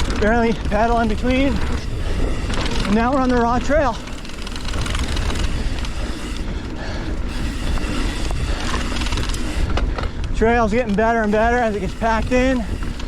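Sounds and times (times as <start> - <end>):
bike clicks and rattles: 0.0 - 13.0
bike tyres on dirt: 0.0 - 13.0
wind on microphone: 0.0 - 13.0.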